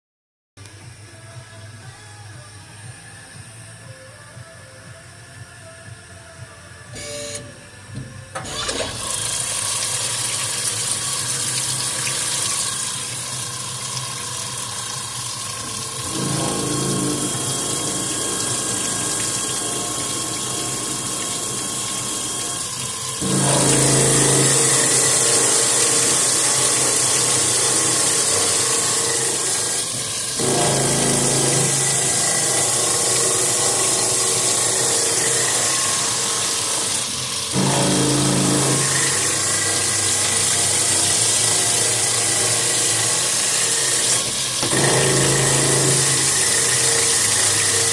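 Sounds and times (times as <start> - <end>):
machine spindle boring metal: 7.0 - 47.9.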